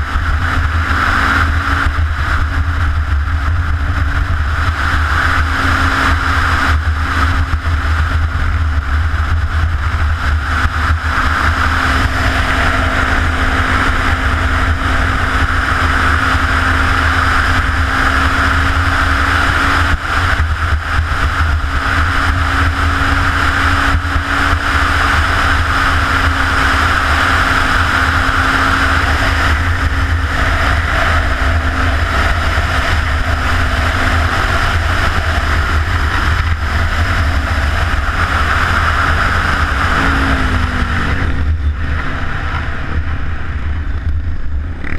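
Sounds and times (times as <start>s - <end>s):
motorcycle engine running: 0.0s - 44.9s
wind rumble on microphone: 0.0s - 44.9s.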